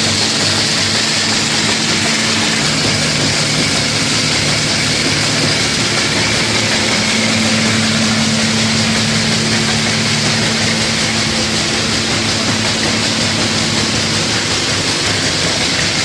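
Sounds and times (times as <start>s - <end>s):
flour mill grinding: 0.0s - 16.0s
low motor hum: 0.0s - 16.0s.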